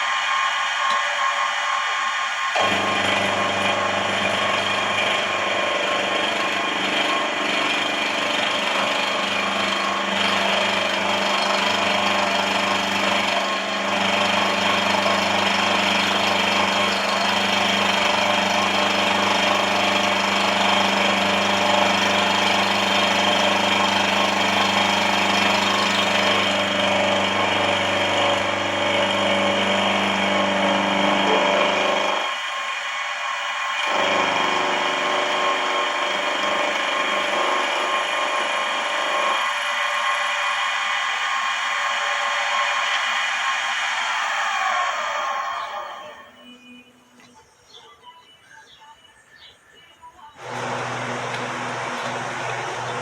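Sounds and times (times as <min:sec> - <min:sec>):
mill-drill motor running: 0:00.0 - 0:46.4, 0:50.4 - 0:53.0.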